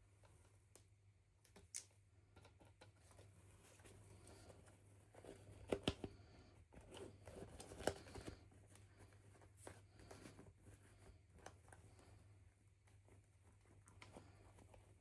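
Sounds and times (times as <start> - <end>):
light rustling of packaging: 1.5 - 15.0.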